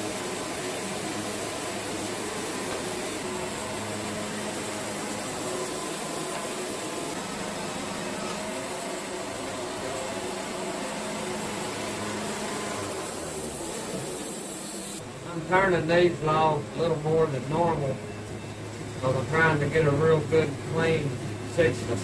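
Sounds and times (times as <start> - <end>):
band sawmill sawing logs: 0.0 - 18.0.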